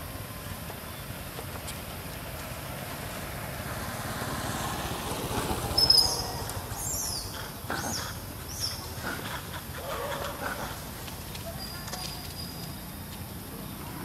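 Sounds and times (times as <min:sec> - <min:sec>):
steady outdoor noise: 0:00.0 - 0:14.0.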